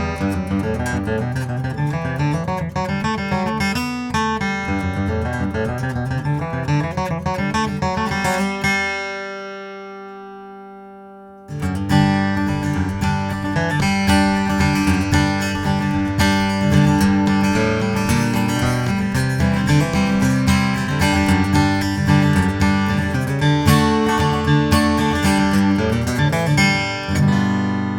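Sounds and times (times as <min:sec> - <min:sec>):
acoustic guitar strumming: 0:00.0 - 0:27.9.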